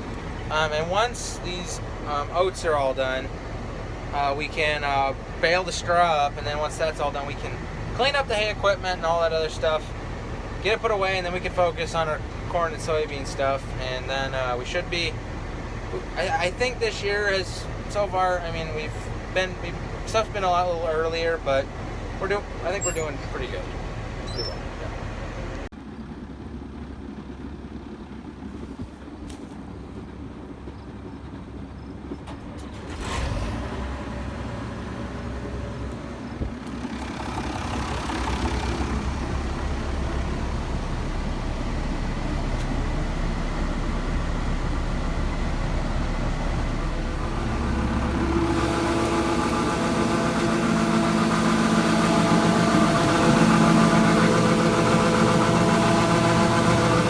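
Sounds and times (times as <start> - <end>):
whining mechanical hum: 0.0 - 32.9, 34.1 - 57.0
farm machinery engine running: 0.0 - 57.0.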